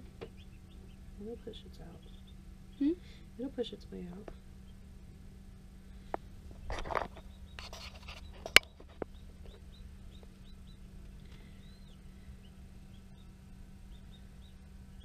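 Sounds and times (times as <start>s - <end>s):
chicks peeping: 0.0s - 4.9s, 6.1s - 15.0s
steady low hum: 0.0s - 15.0s.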